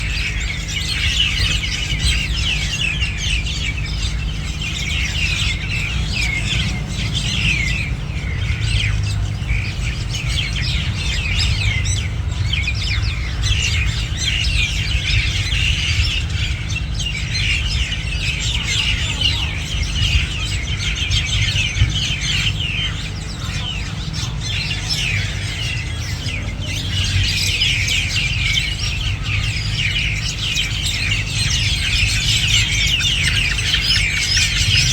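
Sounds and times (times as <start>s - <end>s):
flock of birds chirping: 0.0s - 34.9s.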